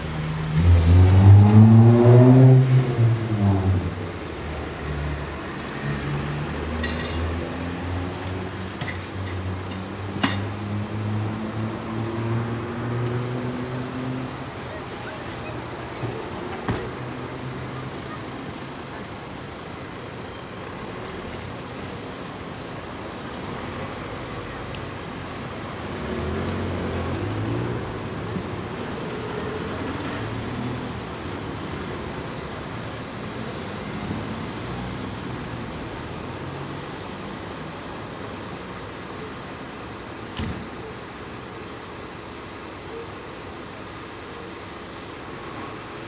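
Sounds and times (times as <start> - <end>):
street traffic: 0.0 - 46.0.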